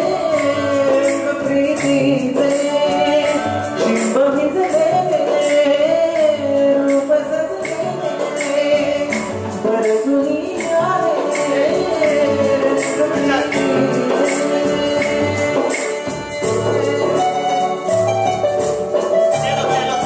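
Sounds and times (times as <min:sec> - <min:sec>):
man singing into microphone: 0:00.0 - 0:16.3
jingling percussion beat: 0:00.0 - 0:20.0.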